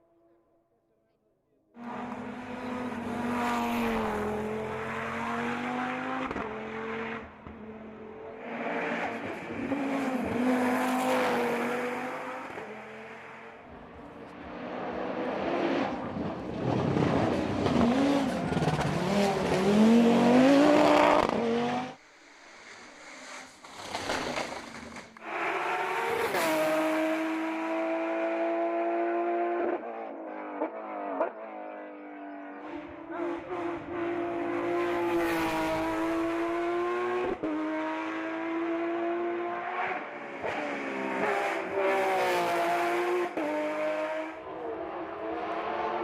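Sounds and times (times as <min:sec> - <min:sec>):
racing car engines revving: 0:01.8 - 0:22.0, 0:23.0 - 0:46.0.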